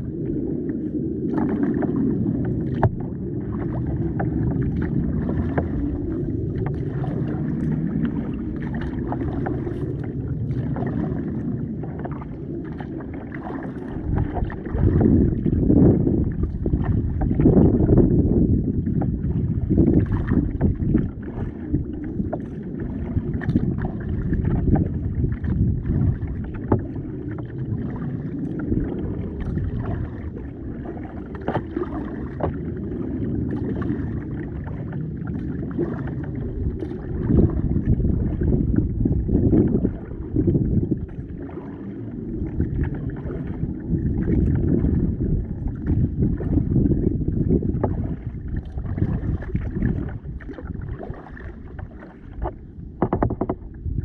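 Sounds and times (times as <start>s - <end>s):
paddle splashes and knocks: 0.0s - 54.0s
water rumbling against kayak hull: 0.0s - 54.0s.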